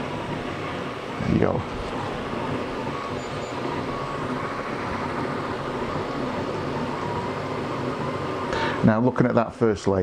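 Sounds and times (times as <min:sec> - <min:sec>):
cooling fans whirring: 0:00.0 - 0:10.0
faint stepper motor tones: 0:00.0 - 0:10.0.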